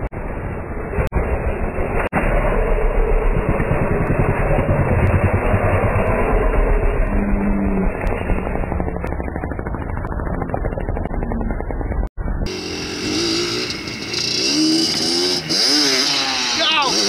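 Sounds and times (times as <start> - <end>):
motorcycle engine running: 0.0 - 17.0
quad engine revving: 3.0 - 17.0.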